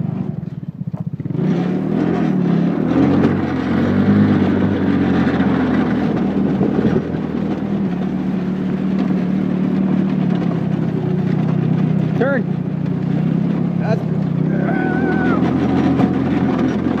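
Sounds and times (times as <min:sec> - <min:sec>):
buggy engine running: 0:00.0 - 0:17.0
tyres rumbling on dirt track: 0:00.0 - 0:17.0.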